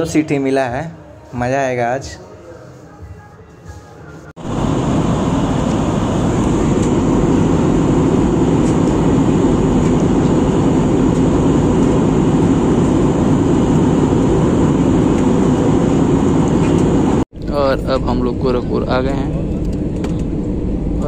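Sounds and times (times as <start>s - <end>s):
airliner cabin noise: 2.6s - 21.0s.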